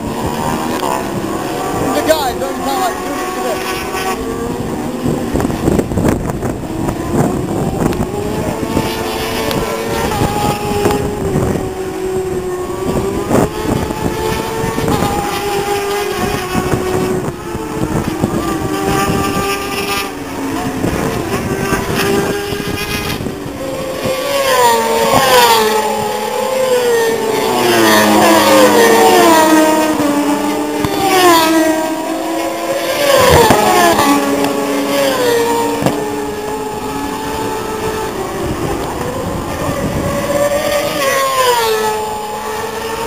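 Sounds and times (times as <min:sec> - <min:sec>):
racing motorcycle engines revving: 0:00.0 - 0:43.0.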